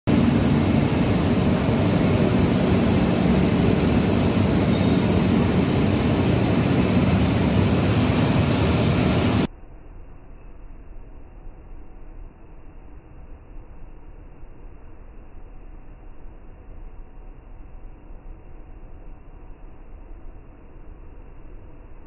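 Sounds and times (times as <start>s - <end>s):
machine running with hum: 0.0s - 22.0s.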